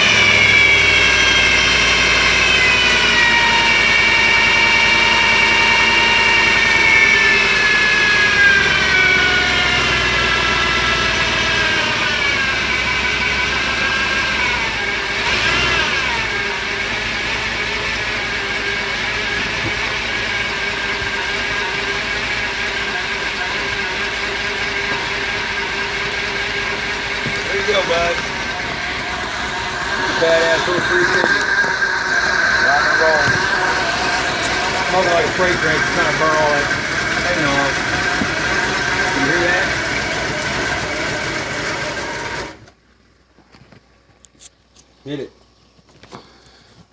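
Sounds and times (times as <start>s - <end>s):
boat engine idling: 0.0s - 42.8s.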